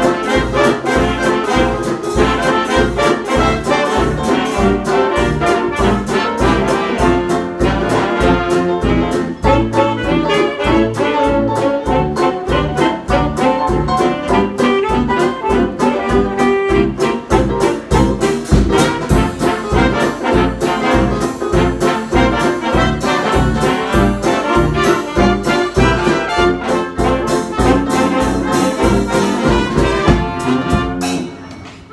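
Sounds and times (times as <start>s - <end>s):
jazz dance band with brass: 0.0s - 31.9s.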